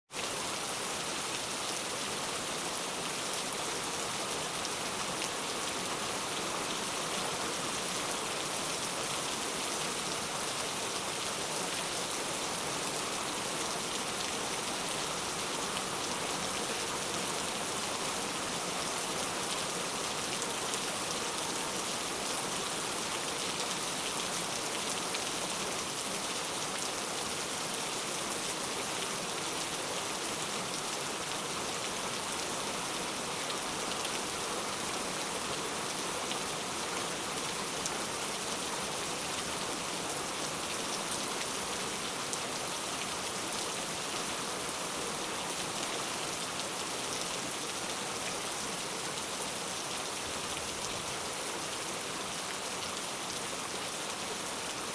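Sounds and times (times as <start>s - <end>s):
steady rain falling: 0.1s - 54.9s.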